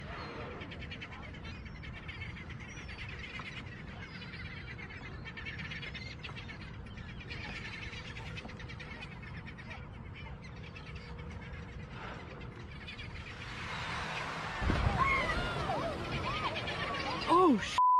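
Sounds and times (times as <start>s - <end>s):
birds chattering: 0.0s - 17.8s
low rumble of wind and water: 0.0s - 17.8s.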